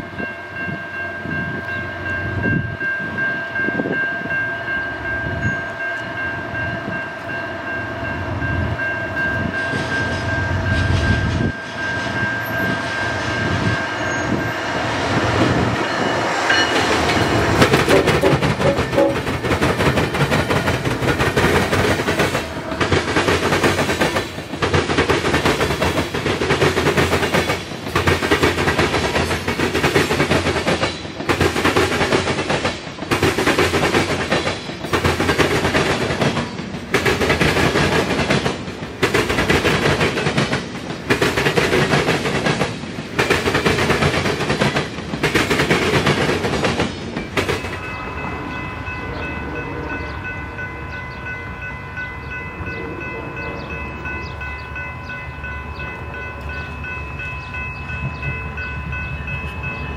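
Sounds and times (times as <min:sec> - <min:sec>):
crossing warning bell ringing: 0:00.0 - 0:59.9
freight train wheels on rails: 0:00.0 - 0:59.9.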